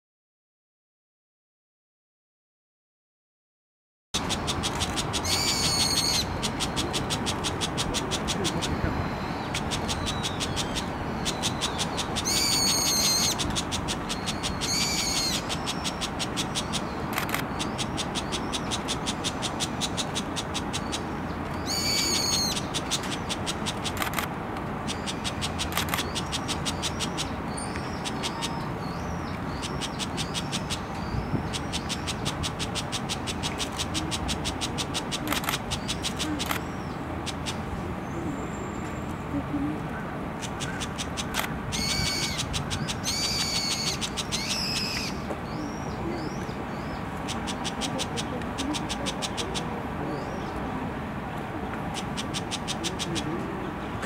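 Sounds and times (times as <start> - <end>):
shrike calling: 4.2 - 38.3, 40.4 - 50.6.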